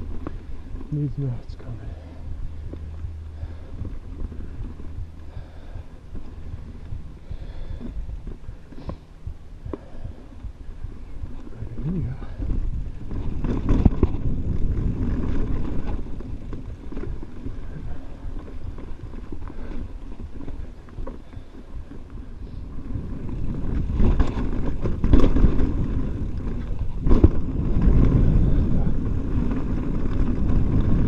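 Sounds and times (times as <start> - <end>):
bike clattering over bumps: 0.0 - 1.0, 1.8 - 31.0
bike tyres rumbling on trail: 0.0 - 31.0
wind buffeting microphone: 0.0 - 31.0.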